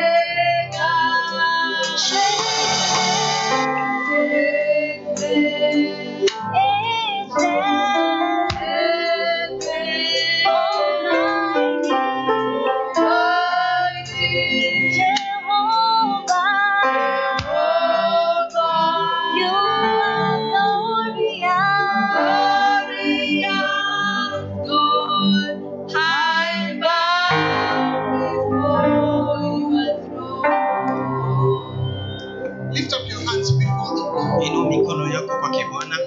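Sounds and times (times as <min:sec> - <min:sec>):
instrumental backing with guitar: 0:00.0 - 0:23.7, 0:27.3 - 0:36.0
woman singing: 0:00.0 - 0:32.3.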